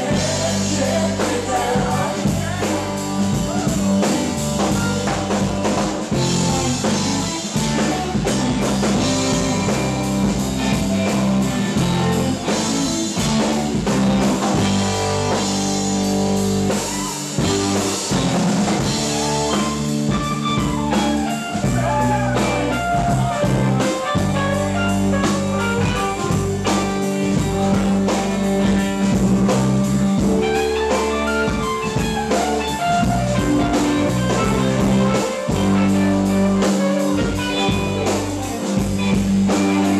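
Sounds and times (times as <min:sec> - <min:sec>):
drum kit beat: 0:00.0 - 0:39.9
electric guitar bending notes: 0:00.0 - 0:39.9
sustained bass notes: 0:00.0 - 0:39.9.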